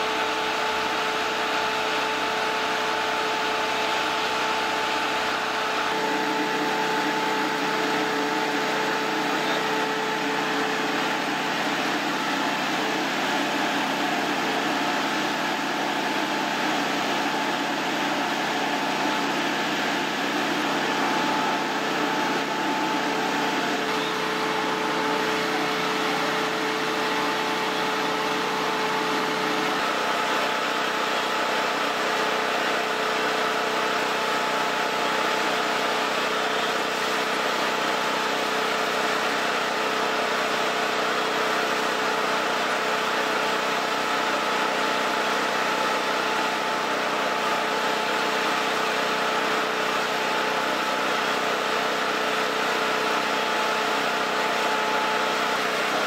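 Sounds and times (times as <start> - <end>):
engine drone: 0.0 - 56.0.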